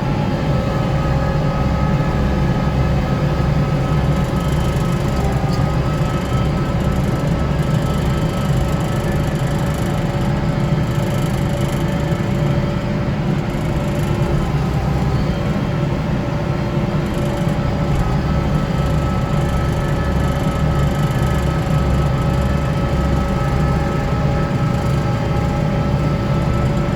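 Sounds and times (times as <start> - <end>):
tractor diesel engine droning: 0.0 - 26.9.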